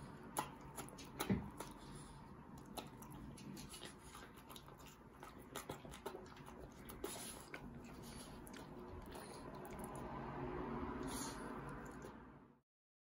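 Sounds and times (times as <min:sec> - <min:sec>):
dog licking and chewing: 0:00.0 - 0:12.2.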